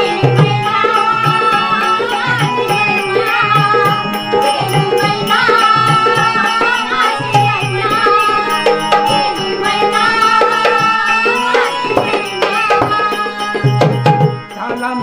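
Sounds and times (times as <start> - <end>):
hand drum beat: 0.0 - 14.5
electronic keyboard melody: 0.0 - 15.0.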